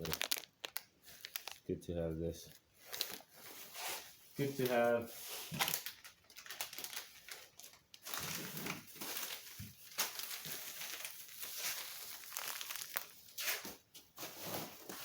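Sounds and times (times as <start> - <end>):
packing material crinkling: 0.0 - 1.7, 2.5 - 15.0.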